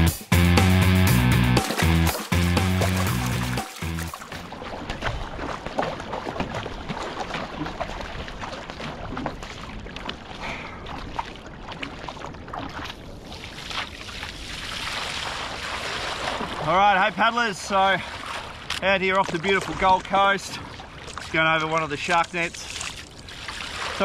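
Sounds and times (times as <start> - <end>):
paddle splashing in water: 1.6 - 24.0
water rushing along hull: 1.6 - 24.0.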